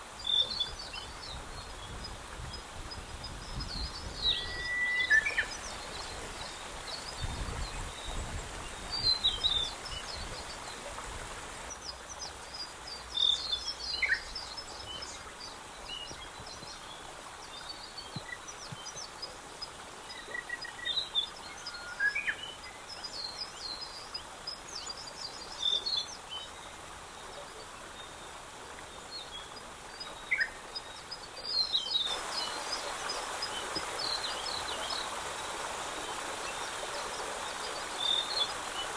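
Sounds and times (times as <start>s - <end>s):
outdoor ambient hiss: 0.0s - 38.9s
small birds chirping: 0.0s - 38.9s.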